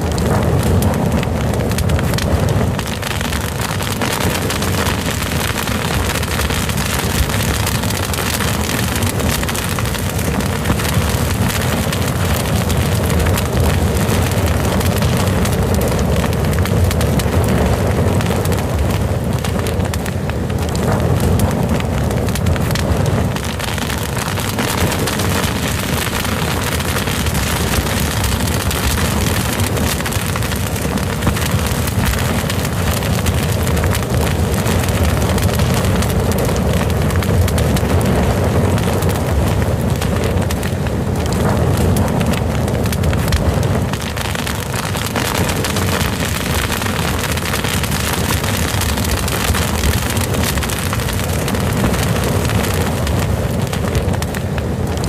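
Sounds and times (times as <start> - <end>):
deep steady rumble: 0.0 - 55.0
fire crackling: 0.0 - 55.0.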